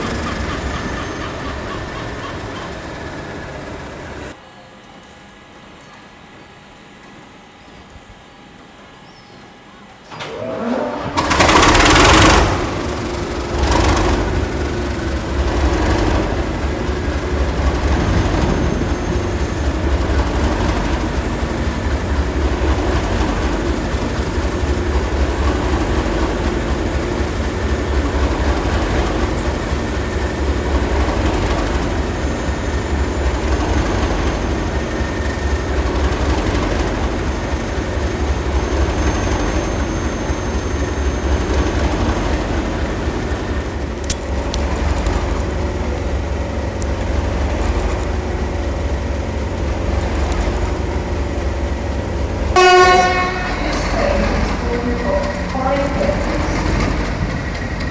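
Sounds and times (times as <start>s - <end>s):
diesel locomotive engine starting and idling: 0.0s - 57.9s.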